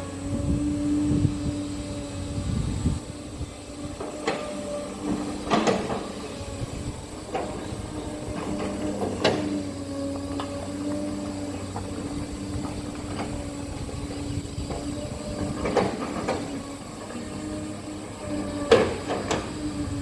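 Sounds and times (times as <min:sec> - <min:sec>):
diesel engine running: 0:00.0 - 0:20.0
hydraulic whine: 0:00.0 - 0:20.0.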